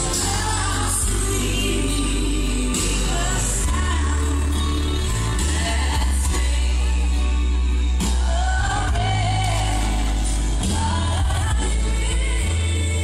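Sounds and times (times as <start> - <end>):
christian song over loudspeakers: 0.0 - 13.0.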